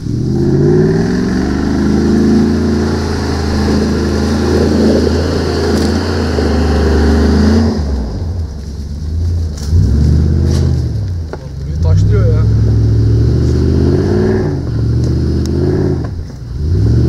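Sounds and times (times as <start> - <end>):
engine revving under load: 0.0 - 17.0.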